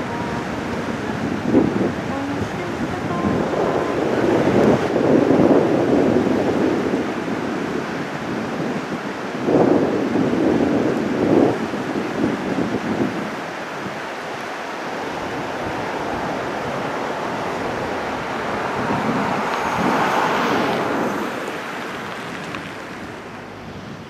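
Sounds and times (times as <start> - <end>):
river water rushing through rapids: 0.0 - 24.0.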